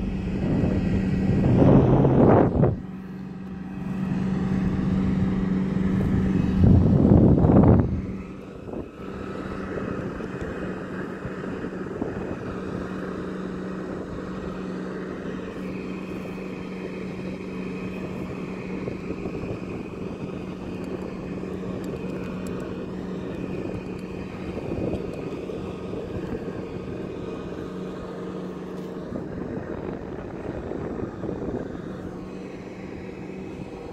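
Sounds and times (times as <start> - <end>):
motorboat engine drone: 0.0 - 33.9
wind buffeting microphone: 0.0 - 33.9.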